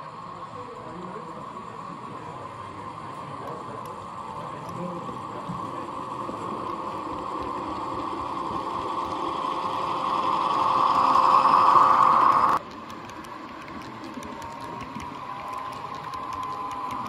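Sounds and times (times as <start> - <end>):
model train running past: 0.0 - 17.0.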